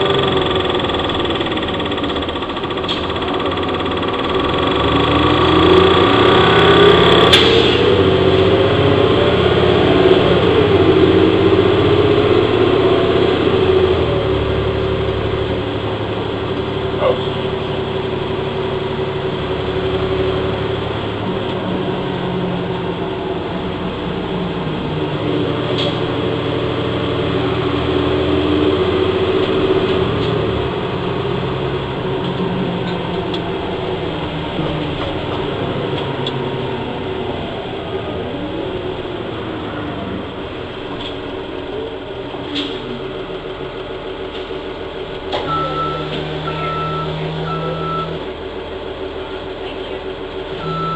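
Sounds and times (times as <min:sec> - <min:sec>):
bus diesel engine driving: 0:00.0 - 0:50.9.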